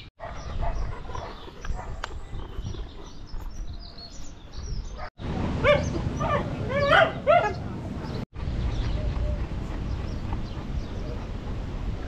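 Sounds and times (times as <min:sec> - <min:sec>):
wind rumble on microphone: 0:00.4 - 0:12.0.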